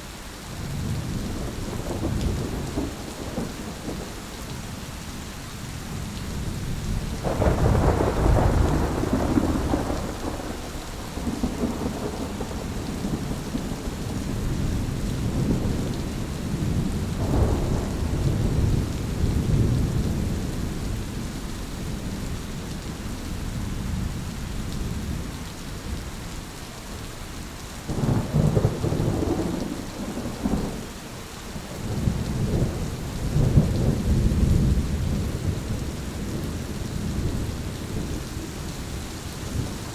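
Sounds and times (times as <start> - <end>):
rain falling: 0.0 - 39.9
thunder rumbling: 0.6 - 4.6, 6.0 - 24.2, 27.9 - 38.5, 39.4 - 39.9.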